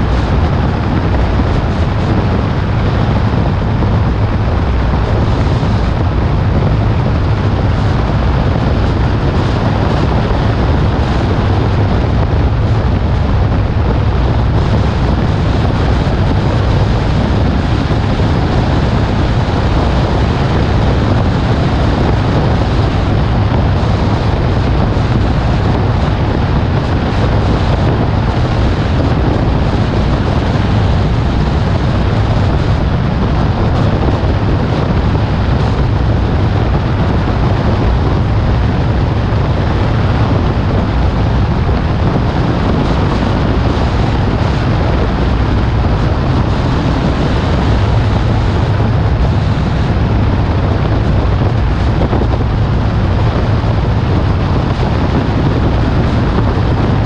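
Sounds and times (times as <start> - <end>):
car engine and tyre rumble: 0.0 - 57.0
wind rushing over microphone: 0.0 - 57.0.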